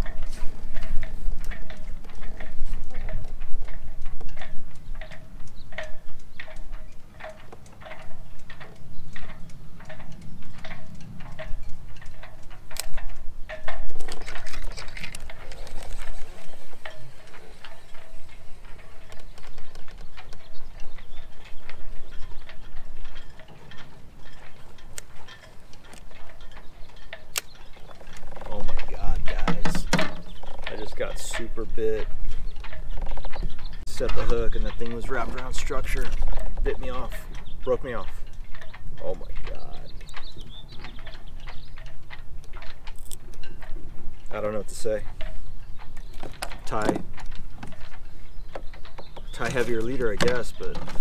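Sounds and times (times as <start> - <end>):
steady mechanical clicking: 0.0 - 51.0.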